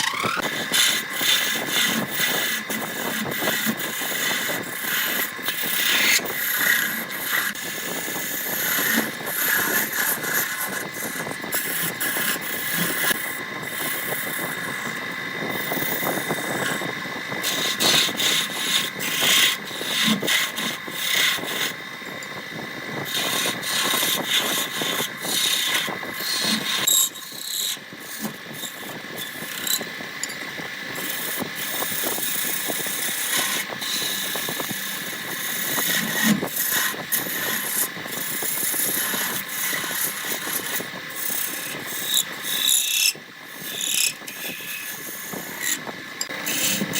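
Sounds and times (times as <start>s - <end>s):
lathe whine: 0.0s - 46.9s
tool scraping spinning wood: 0.0s - 46.9s.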